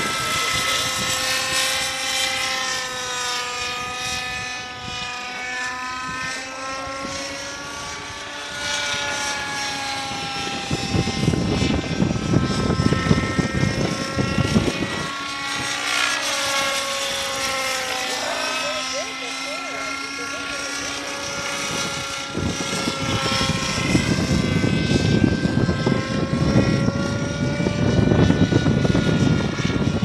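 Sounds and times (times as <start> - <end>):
wind buffeting microphone: 0.0 - 5.3, 5.9 - 30.0
model helicopter rotor whine: 0.0 - 30.0.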